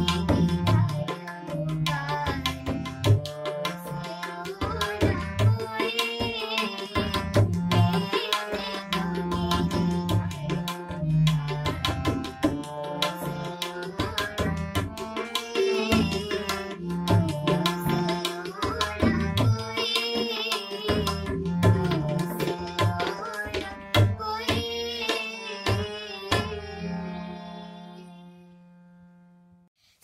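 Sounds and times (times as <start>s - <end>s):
girl singing: 0.0s - 12.2s, 12.9s - 28.4s
harmonium: 0.0s - 29.7s.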